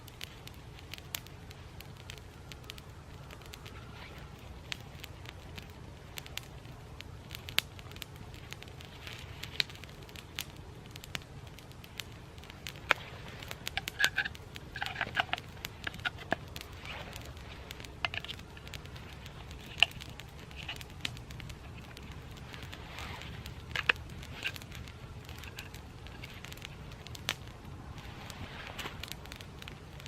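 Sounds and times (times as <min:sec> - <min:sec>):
campfire crackling and popping: 0:00.0 - 0:30.0
low background noise: 0:00.0 - 0:30.0.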